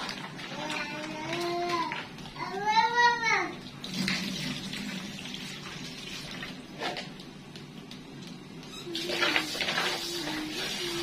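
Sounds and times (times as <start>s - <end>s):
tap water running into a bowl: 0.0s - 11.0s.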